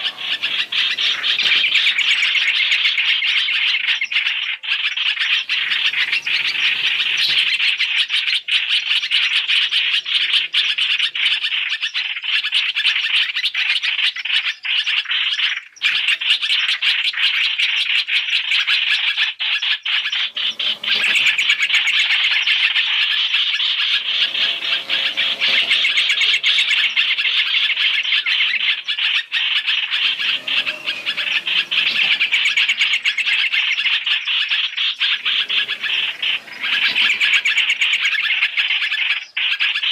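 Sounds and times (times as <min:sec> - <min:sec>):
rapid bird chirps: 0:00.0 - 0:39.9.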